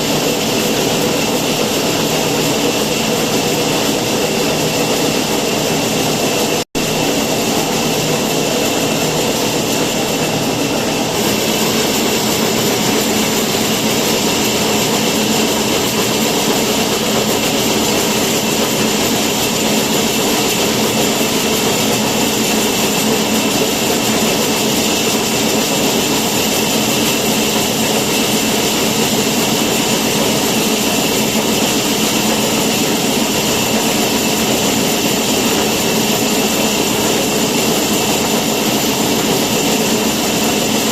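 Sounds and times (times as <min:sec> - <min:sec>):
woodworking machine whirring: 0:00.0 - 0:40.9.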